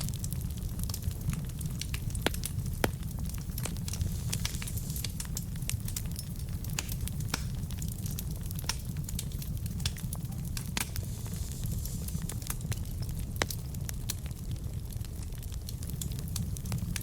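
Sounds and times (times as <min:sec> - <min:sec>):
fire crackling and popping: 0:00.0 - 0:17.0
flames rumbling: 0:00.0 - 0:17.0.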